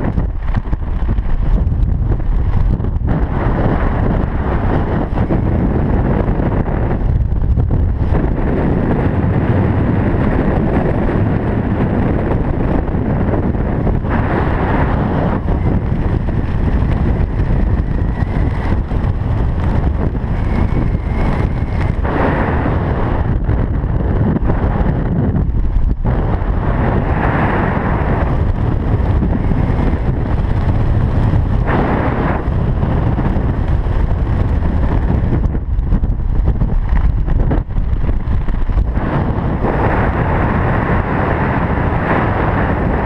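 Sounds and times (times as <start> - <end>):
strong wind buffeting microphone: 0.0 - 43.0.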